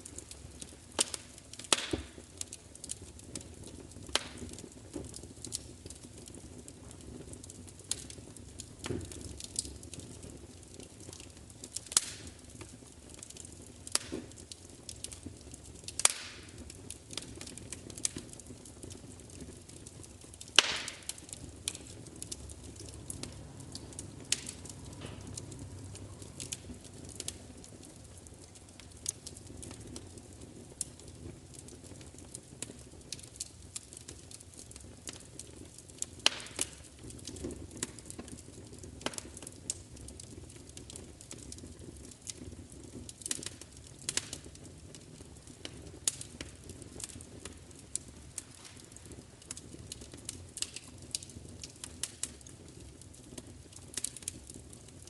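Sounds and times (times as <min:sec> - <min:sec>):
fire crackling with pops: 0:00.0 - 0:55.0.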